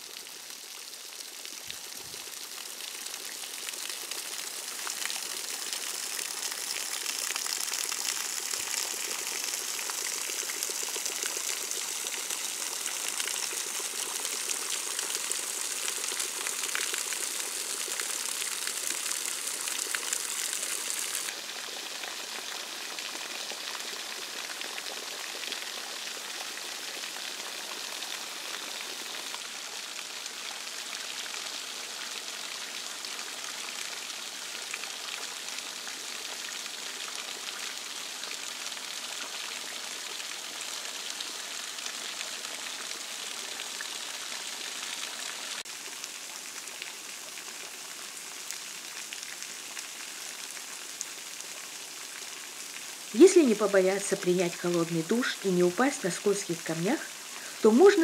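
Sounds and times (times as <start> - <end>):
waterfall gently splashing: 0.0 - 58.0.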